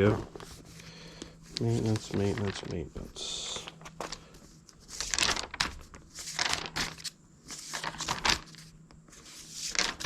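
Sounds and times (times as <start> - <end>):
paper pages turning: 0.0 - 10.0.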